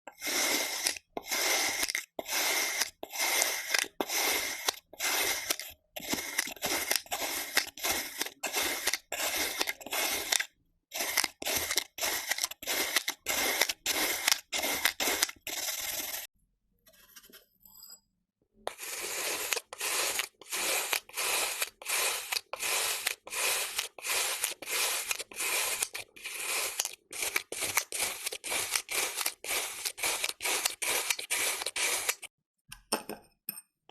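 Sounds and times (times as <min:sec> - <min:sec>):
knife slicing kinetic sand: 0:00.1 - 0:16.3, 0:18.7 - 0:32.3.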